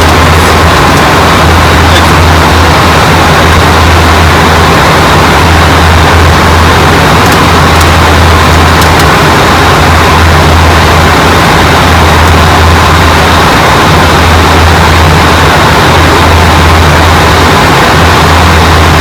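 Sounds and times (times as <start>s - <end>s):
air rush and engine drone: 0.0s - 19.0s
deep hum: 0.0s - 19.0s.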